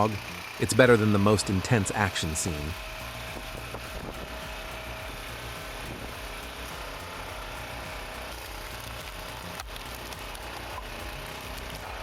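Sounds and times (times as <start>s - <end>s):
machine engine running: 0.0s - 12.0s.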